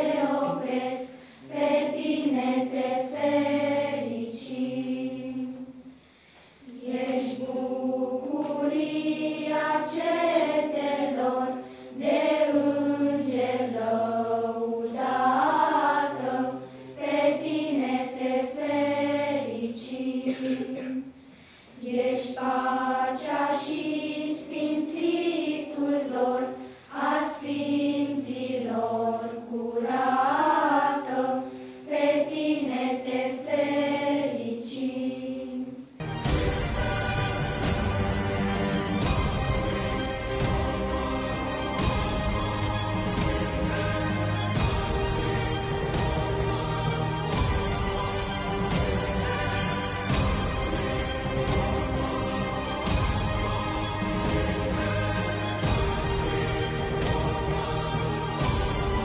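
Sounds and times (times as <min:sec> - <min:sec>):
children's choir singing: 0:00.0 - 0:06.0, 0:06.6 - 0:59.0.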